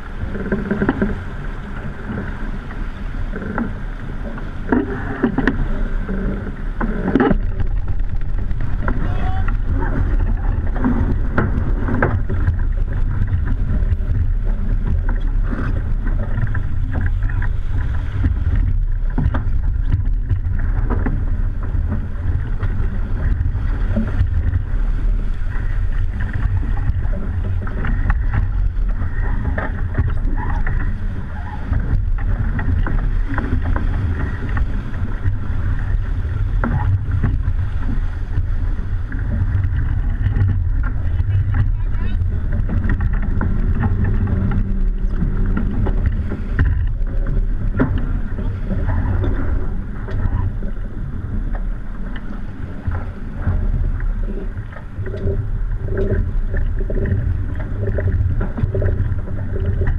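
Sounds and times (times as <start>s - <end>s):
rushing water: 0.0s - 59.9s
wind buffeting microphone: 0.0s - 59.9s.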